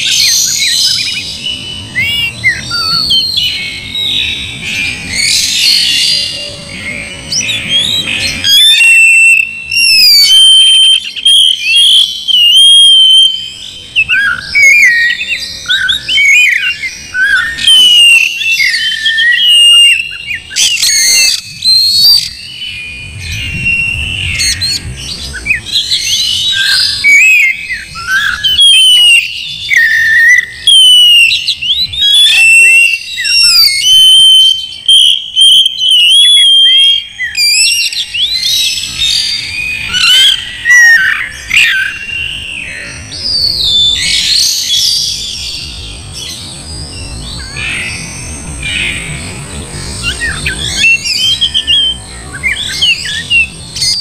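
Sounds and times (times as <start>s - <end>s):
songbird singing whistles and chirps: 0.0s - 54.0s.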